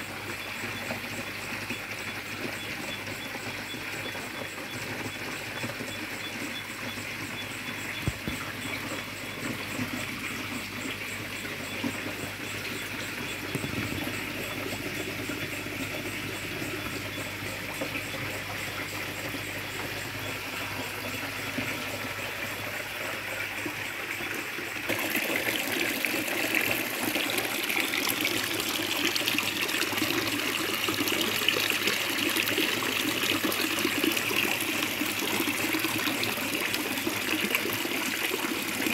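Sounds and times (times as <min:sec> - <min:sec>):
water trickling in a pond: 0:00.0 - 0:38.9.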